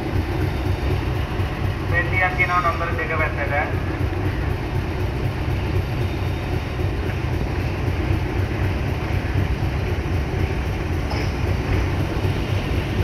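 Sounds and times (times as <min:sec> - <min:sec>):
train engine and wheels rumbling: 0:00.0 - 0:13.0.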